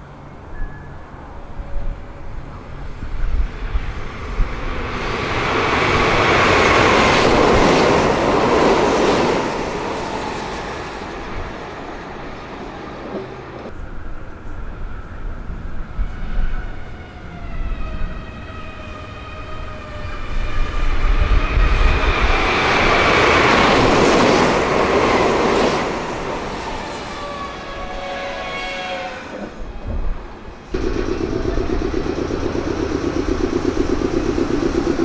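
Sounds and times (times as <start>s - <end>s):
electric train passing: 0.0s - 35.0s.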